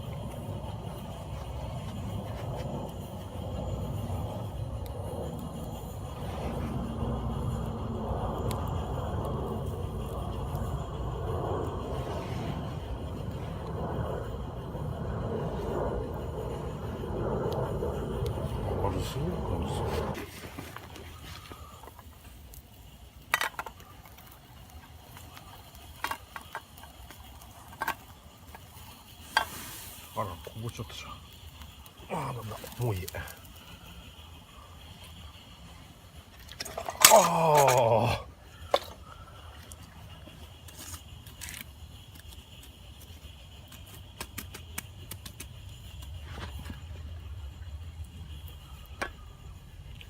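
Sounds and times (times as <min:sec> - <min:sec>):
campfire hissing: 0:00.0 - 0:50.0
fire popping: 0:00.0 - 0:50.0
low steady hum: 0:00.0 - 0:50.0.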